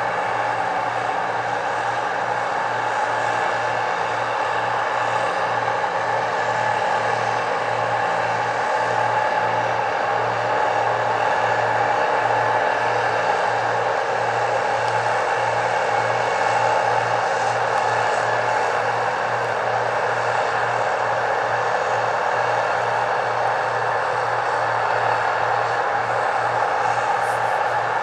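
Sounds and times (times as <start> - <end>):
engine droning with low throb: 0.0 - 28.0.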